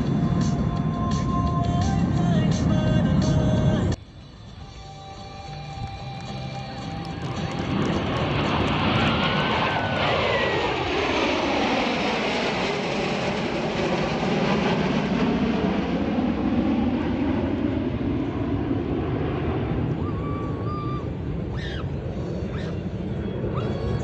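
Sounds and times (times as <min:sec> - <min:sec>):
jet aircraft flying past: 0:00.0 - 0:24.0.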